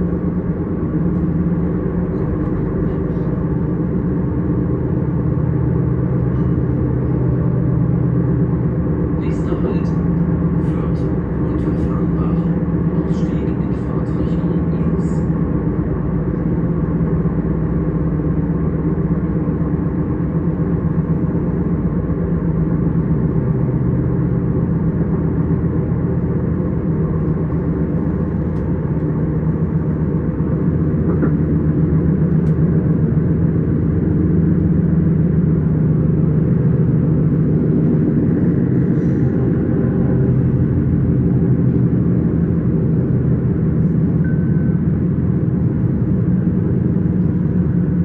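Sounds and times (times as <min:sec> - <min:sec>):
train rumbling and humming: 0:00.0 - 0:48.0.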